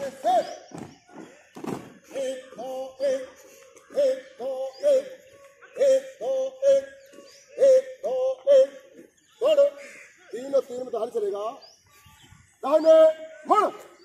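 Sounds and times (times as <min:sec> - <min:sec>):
man chanting marching cadence: 0:00.0 - 0:11.6, 0:12.6 - 0:14.0.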